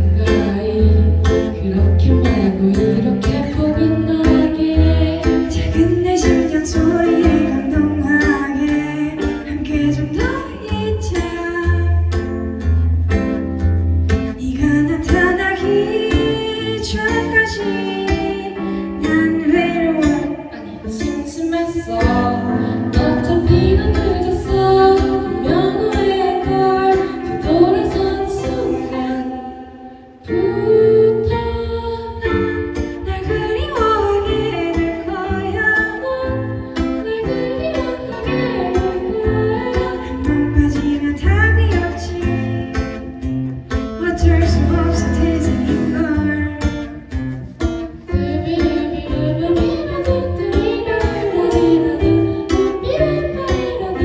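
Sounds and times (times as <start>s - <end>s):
woman singing: 0.0s - 12.5s, 14.3s - 47.2s, 48.0s - 54.0s
guitar and keyboard: 0.0s - 54.0s.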